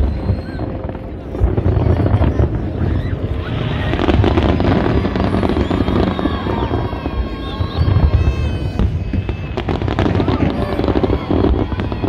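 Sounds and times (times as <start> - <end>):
fireworks crackling and booming: 0.0 - 12.0
whistling fireworks: 0.0 - 12.0.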